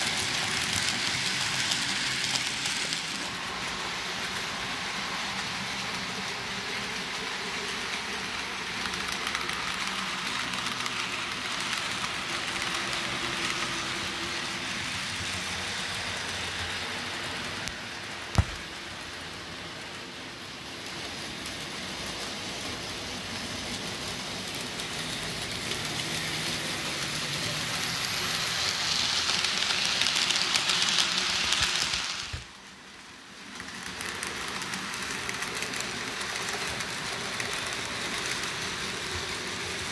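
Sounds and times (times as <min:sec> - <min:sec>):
model train wheels on rails: 0:00.0 - 0:39.9.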